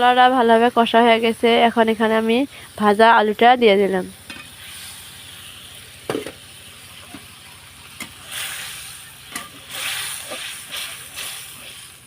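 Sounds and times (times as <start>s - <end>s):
potato sizzling in a pan: 0.0s - 12.0s.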